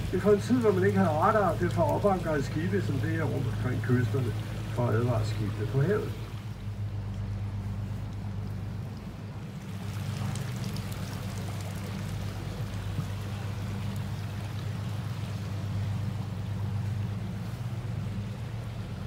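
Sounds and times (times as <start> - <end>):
boat engine humming: 0.0 - 19.0
water splashing along hull: 0.0 - 19.0.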